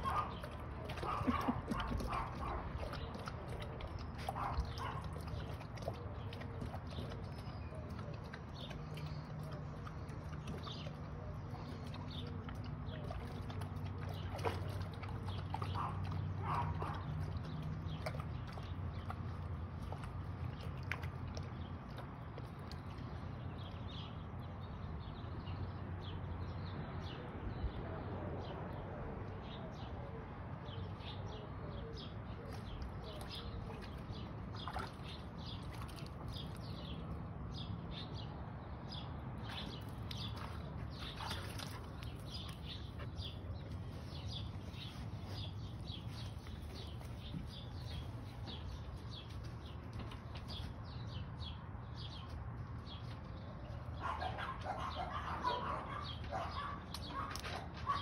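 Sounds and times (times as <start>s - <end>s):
small birds chirping: 0.0s - 28.0s, 29.4s - 58.0s.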